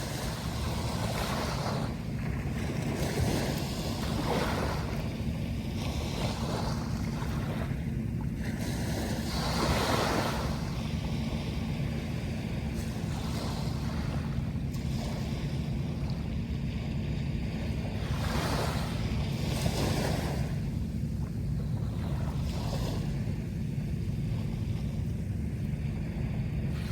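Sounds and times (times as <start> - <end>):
low rumble: 0.0 - 26.9
sea waves breaking: 0.0 - 26.9.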